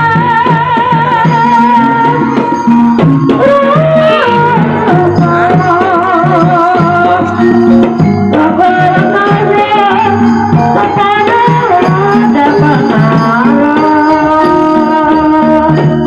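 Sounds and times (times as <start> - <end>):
hand drum pattern: 0.0 - 16.0
sliding wavering melodic lead: 1.4 - 16.0.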